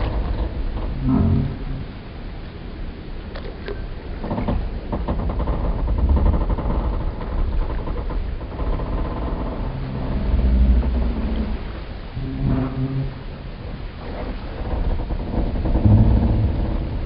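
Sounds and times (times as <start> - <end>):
wooden boat timbers creaking: 0.0 - 2.0, 3.3 - 17.0
low rumble of water: 0.0 - 17.0.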